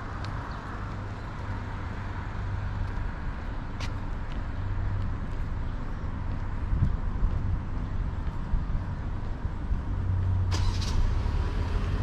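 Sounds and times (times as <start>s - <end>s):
passing cars rumble: 0.0s - 12.0s.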